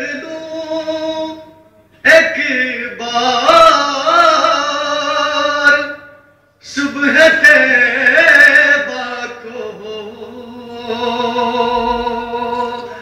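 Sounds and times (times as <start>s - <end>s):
man reciting melodic devotional poem: 0.0s - 13.0s.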